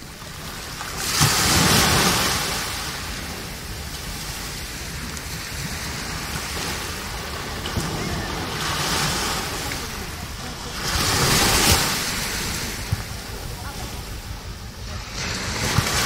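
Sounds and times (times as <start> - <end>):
small waves washing up sand: 0.0 - 16.0.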